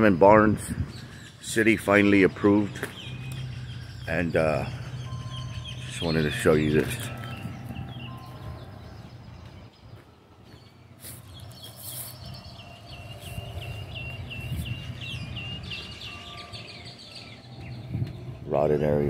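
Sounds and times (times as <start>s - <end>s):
bird chirping: 0.0s - 19.0s
low outdoor hum: 0.0s - 19.0s.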